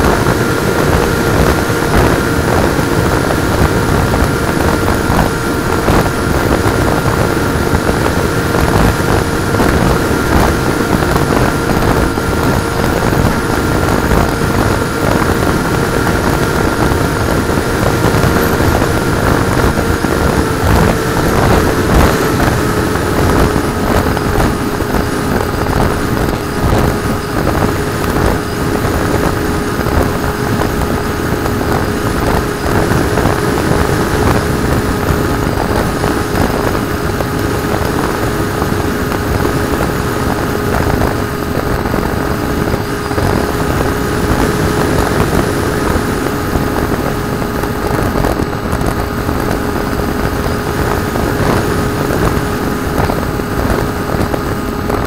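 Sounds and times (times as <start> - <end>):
air rushing and fluttering: 0.0 - 55.0
electric motor whine: 0.0 - 55.0.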